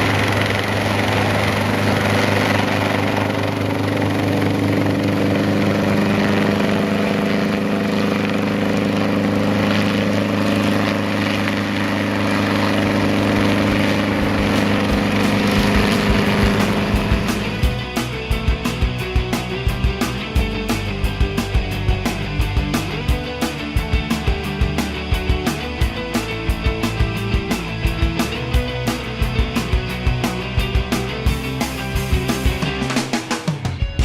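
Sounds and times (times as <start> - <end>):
helicopter engine and rotors: 0.0 - 34.0.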